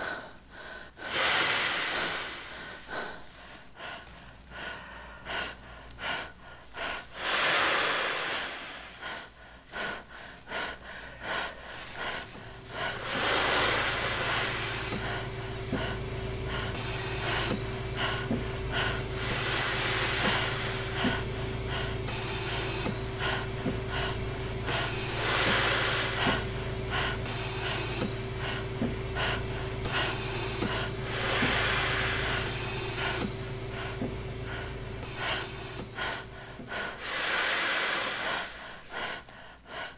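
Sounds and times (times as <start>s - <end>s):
man breathing into plastic bag: 0.0s - 39.9s
steady low hum: 0.0s - 39.9s.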